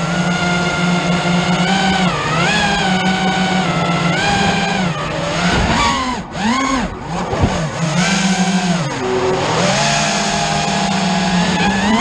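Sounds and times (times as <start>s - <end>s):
motor revving: 0.0s - 12.0s.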